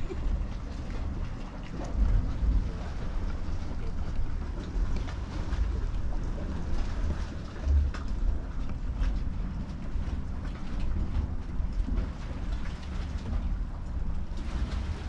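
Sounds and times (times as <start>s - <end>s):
deep rumbling of a hot spring: 0.0s - 15.0s
water splashing and sloshing: 0.0s - 15.0s.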